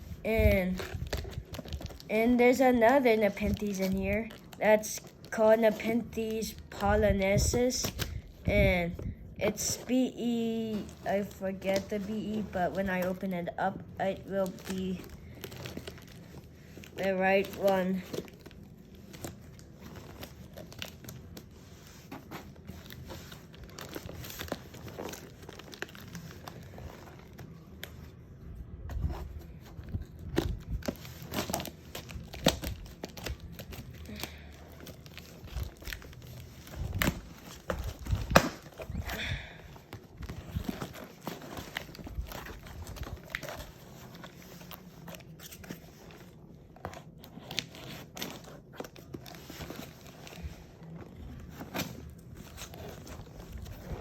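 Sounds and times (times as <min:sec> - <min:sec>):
packaging crinkling and tearing: 0:00.0 - 0:54.0.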